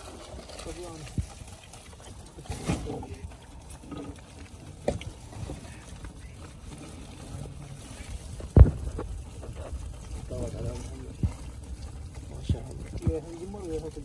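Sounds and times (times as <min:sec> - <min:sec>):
water trickling from a net: 0:00.0 - 0:14.0.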